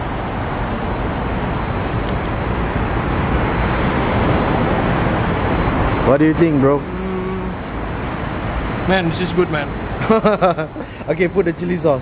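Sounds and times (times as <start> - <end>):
loud outdoor rushing rumble: 0.0 - 10.2.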